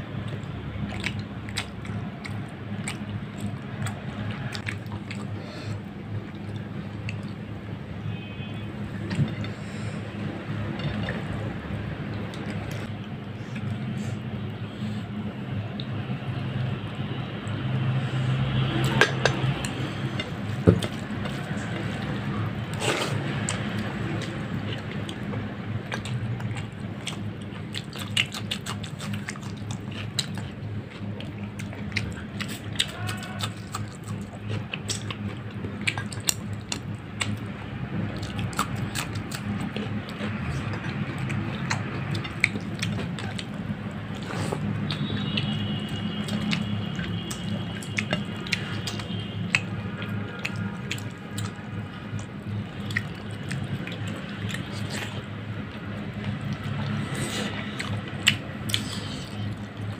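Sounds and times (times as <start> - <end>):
wet chewing and lip-smacking: 0.1 - 8.3, 9.0 - 16.0, 18.3 - 59.9.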